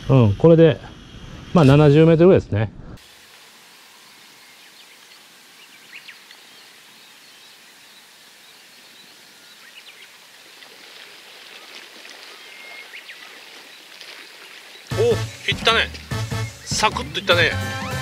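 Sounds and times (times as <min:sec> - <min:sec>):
soft hiss of wind and water: 0:00.0 - 0:16.7.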